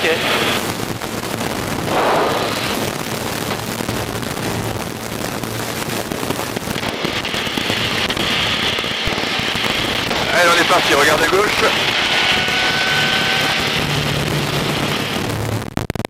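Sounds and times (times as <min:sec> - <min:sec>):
airplane engine and rushing air: 0:00.0 - 0:15.8.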